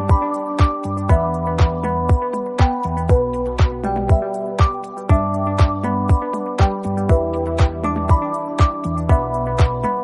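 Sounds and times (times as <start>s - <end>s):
electronic music: 0.0s - 10.0s
kick drum beat: 0.1s - 9.9s.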